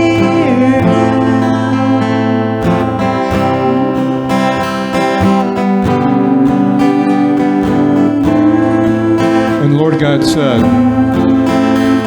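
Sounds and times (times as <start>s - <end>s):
person singing: 0.0s - 12.0s
strummed acoustic guitar: 0.0s - 12.0s
sustained synth pad: 0.0s - 12.0s.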